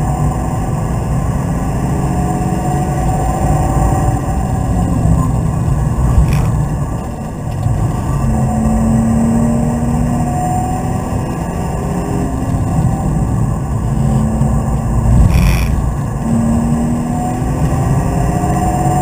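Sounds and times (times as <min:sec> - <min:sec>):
car engine running hard: 0:00.0 - 0:19.0
road and tyre rumble: 0:00.0 - 0:19.0.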